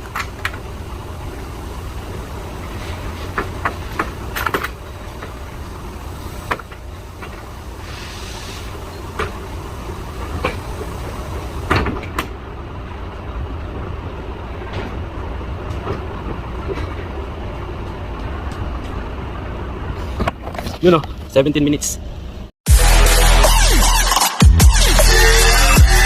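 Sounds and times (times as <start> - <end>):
vehicle engine droning: 0.0 - 22.5.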